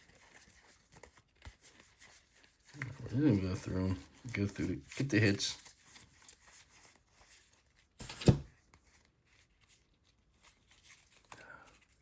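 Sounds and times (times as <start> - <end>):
handling card packs: 0.0 - 12.0.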